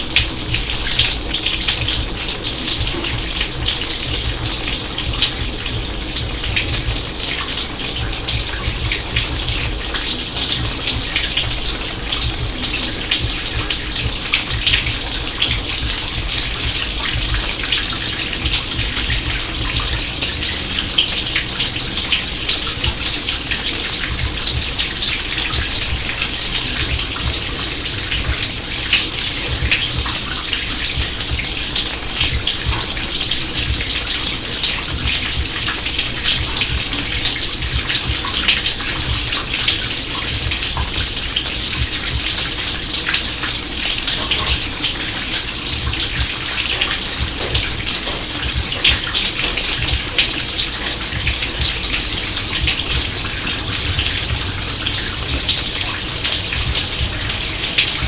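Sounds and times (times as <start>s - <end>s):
water running into sink: 0.0s - 58.0s.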